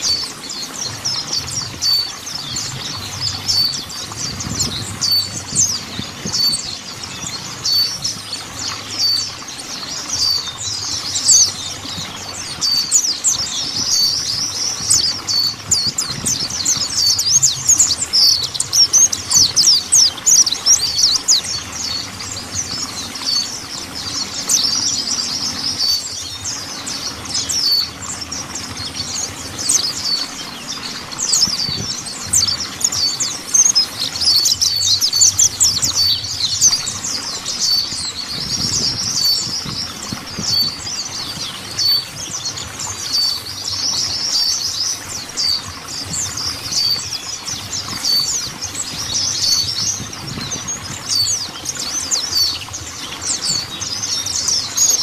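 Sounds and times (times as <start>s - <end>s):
bird singing high twittering: 0.0s - 55.0s.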